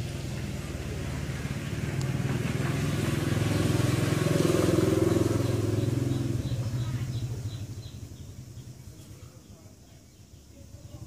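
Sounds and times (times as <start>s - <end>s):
passing vehicle engine: 0.0s - 9.1s.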